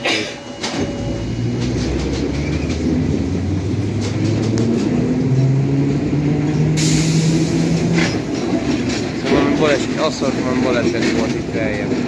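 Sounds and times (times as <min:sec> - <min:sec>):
electric train motors humming: 0:00.0 - 0:12.0.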